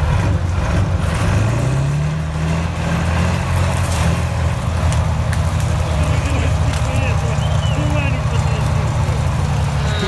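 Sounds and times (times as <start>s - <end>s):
tractor diesel engine revving: 0.0s - 10.0s.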